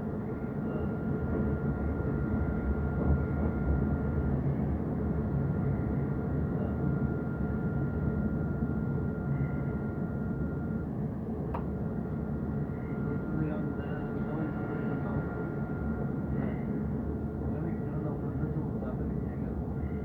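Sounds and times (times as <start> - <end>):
tram rumbling along track: 0.0 - 8.1, 10.9 - 20.0.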